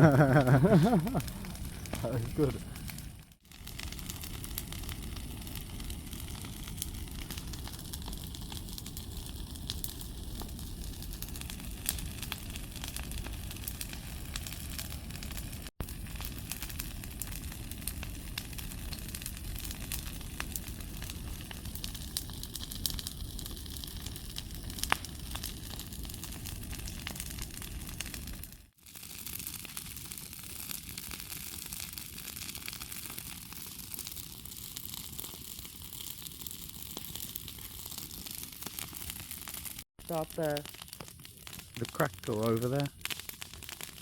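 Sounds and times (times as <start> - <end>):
bonfire rushing: 0.0 - 44.0
fire crackling and popping: 0.0 - 44.0.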